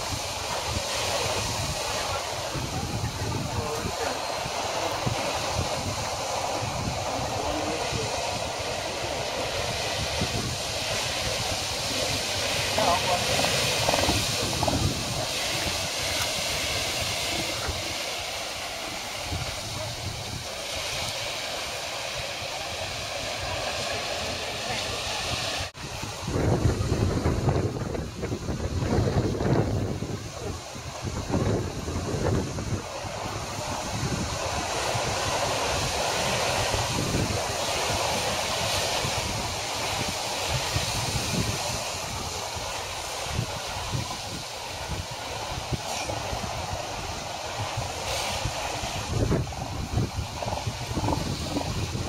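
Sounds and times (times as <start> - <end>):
surf breaking on rocks: 0.0 - 52.0
wind buffeting microphone: 0.0 - 52.0.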